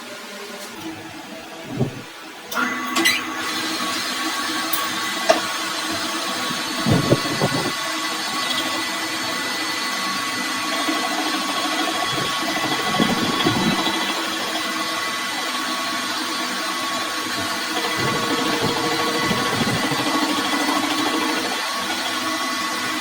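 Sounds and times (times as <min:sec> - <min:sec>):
machine humming and whining: 0:00.0 - 0:23.0.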